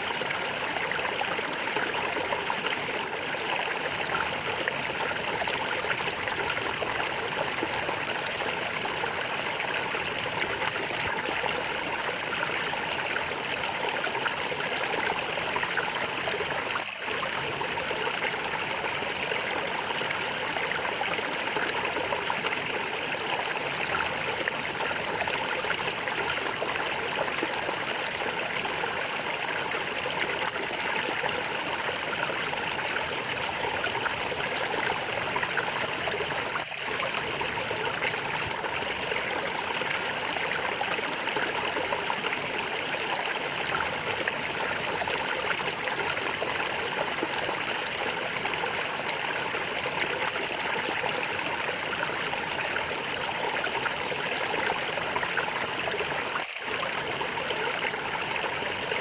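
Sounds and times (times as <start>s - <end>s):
stream water flowing and gurgling: 0.0s - 59.0s.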